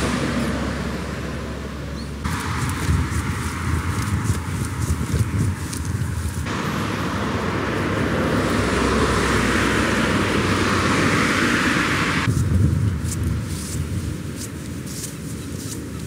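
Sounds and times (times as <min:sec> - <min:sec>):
tyre noise of passing vehicles: 0:00.0 - 0:16.0.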